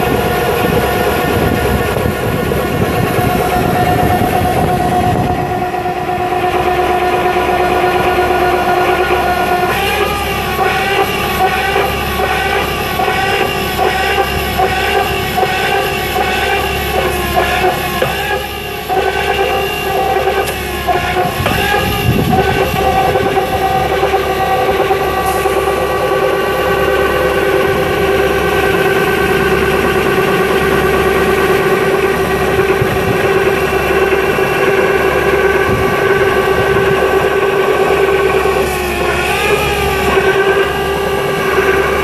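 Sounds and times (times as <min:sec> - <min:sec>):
diesel engine at high revs: 0:00.0 - 0:42.0
hydraulic machine whine: 0:00.0 - 0:42.0.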